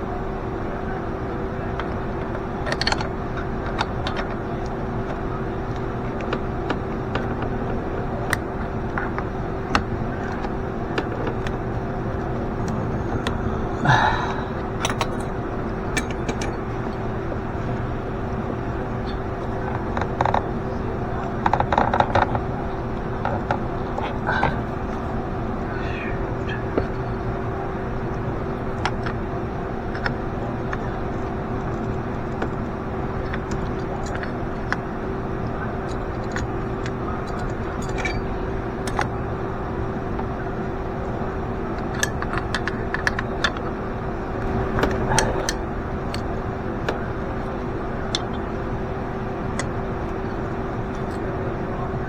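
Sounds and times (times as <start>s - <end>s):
car engine idling: 0.0s - 52.0s
steady machine hum: 0.0s - 52.0s.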